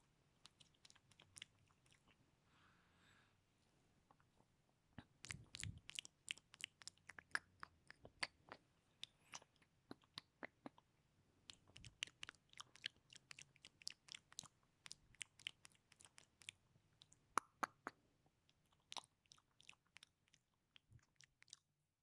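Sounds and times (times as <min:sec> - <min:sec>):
wet lip and tongue clicks: 0:00.4 - 0:02.2, 0:05.0 - 0:21.7.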